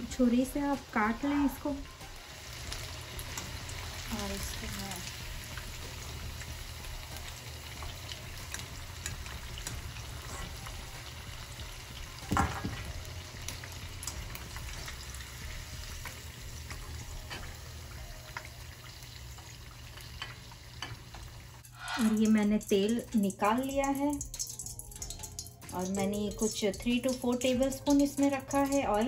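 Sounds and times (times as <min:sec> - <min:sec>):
chicken deep-frying in oil: 0:00.0 - 0:29.0.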